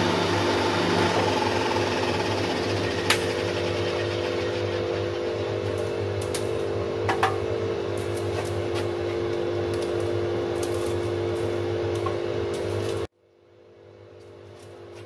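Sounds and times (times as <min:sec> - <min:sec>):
bandsaw humming idle: 0:00.0 - 0:13.1.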